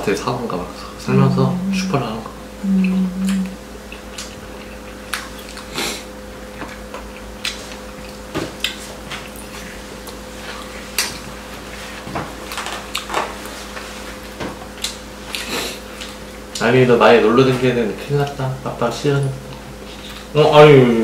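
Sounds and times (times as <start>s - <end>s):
faint steady hum: 0.0s - 21.0s
people eating noises: 0.0s - 21.0s.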